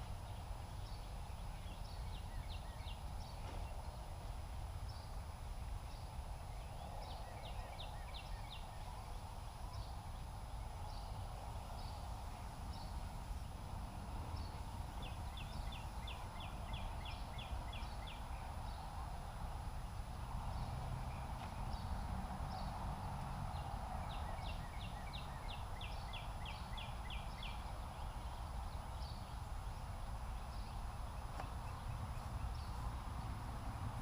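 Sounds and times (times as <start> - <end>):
small birds chirping and trilling: 0.0 - 34.0.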